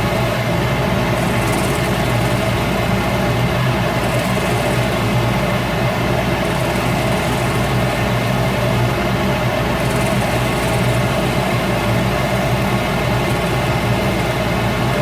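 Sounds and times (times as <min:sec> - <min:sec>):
wood lathe motor humming: 0:00.0 - 0:15.0.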